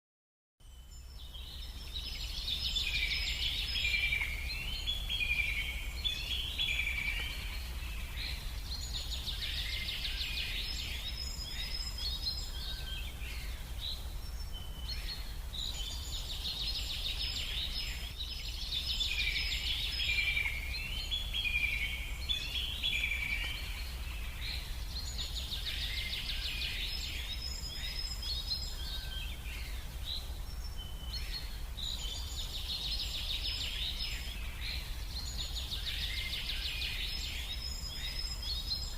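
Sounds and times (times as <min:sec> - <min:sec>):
birds chirping and trilling: 0:00.6 - 0:38.9.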